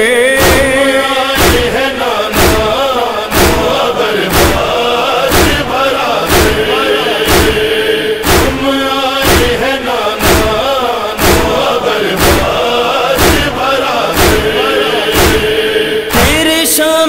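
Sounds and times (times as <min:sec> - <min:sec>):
chorus of voices chanting: 0:00.0 - 0:17.0
rhythmic chest-beating thuds: 0:00.3 - 0:16.8.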